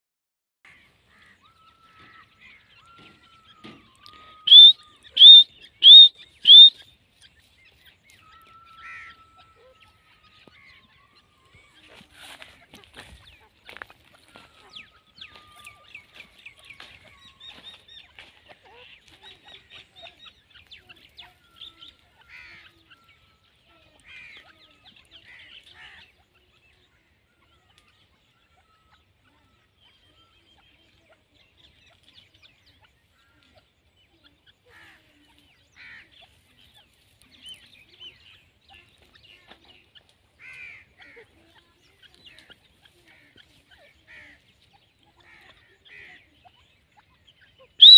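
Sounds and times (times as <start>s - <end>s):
francolins calling: 0.7s - 47.9s.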